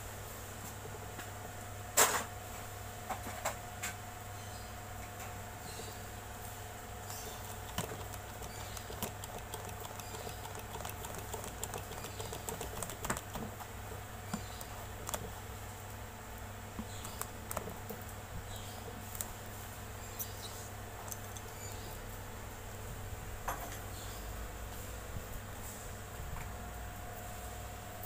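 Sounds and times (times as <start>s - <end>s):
steady low hum: 4.0s - 28.0s.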